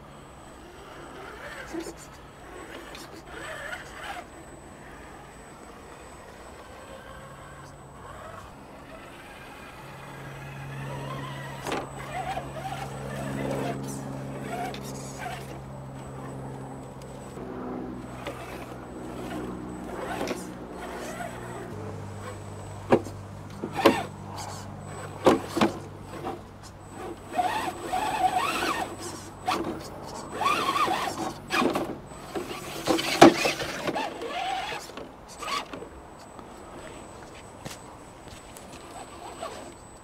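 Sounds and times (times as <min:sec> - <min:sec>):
toy car motor whining: 0:00.1 - 0:17.4, 0:18.0 - 0:37.4, 0:38.5 - 0:40.0.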